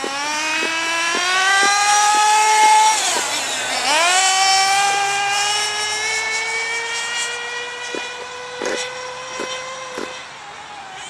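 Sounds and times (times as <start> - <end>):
small nitro engine buzzing: 0.0 - 11.0.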